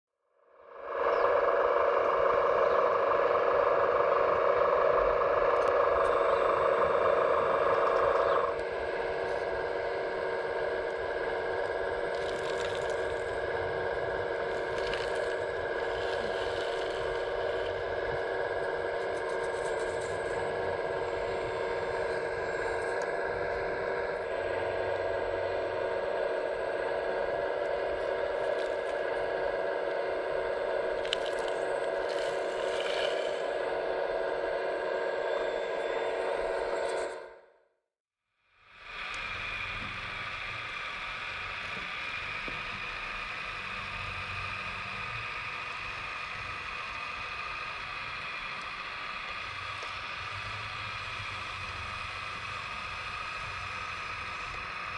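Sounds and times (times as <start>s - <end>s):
hydraulic pump humming: 0.6s - 37.4s, 38.8s - 54.9s.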